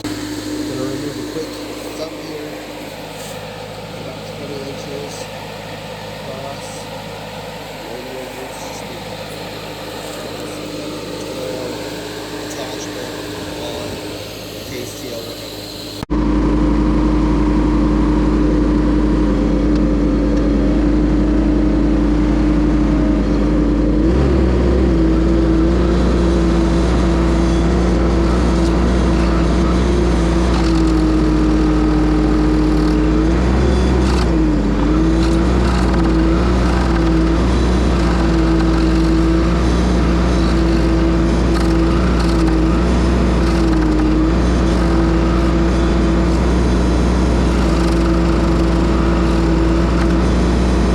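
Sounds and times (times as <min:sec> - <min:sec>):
skid steer engine running: 0:00.0 - 0:50.9.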